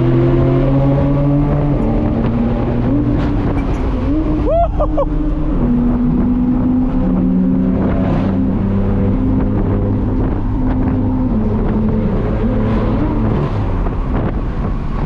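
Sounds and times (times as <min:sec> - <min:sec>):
loud car exhaust while driving: 0:00.0 - 0:15.0
wind noise: 0:00.0 - 0:15.0.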